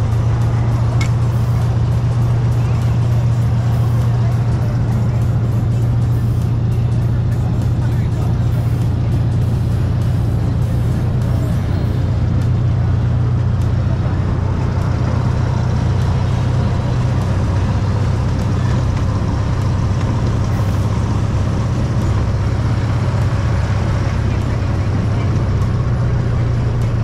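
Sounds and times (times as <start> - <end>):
low train engine hum: 0.0 - 27.0.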